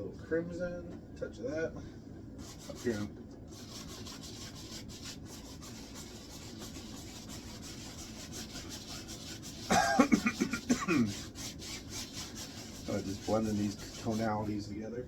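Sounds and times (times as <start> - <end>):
paintbrush rubbing on canvas: 2.4 - 14.7.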